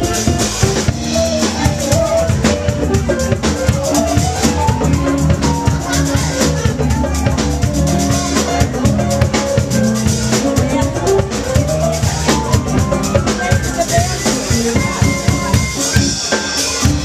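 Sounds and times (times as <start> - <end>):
drum kit steady beat: 0.0 - 17.0
live band music: 0.0 - 17.0.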